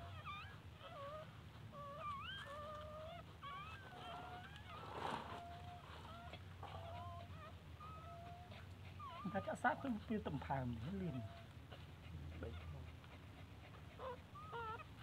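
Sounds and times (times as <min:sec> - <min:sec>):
puppies squeaking and whining: 0:00.0 - 0:15.0.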